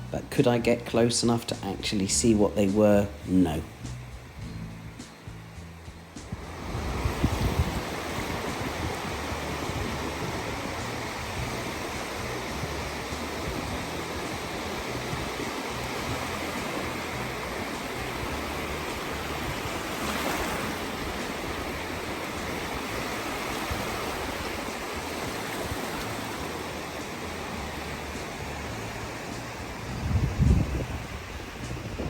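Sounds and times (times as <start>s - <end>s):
small waves washing: 6.2s - 32.0s.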